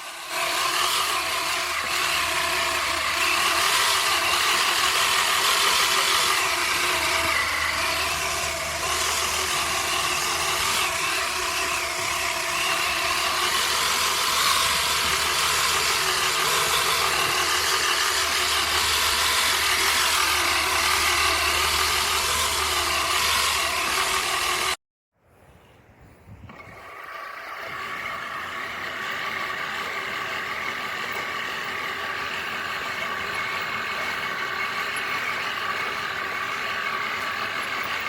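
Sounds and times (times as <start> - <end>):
motor running: 0.0 - 24.8, 26.5 - 38.0.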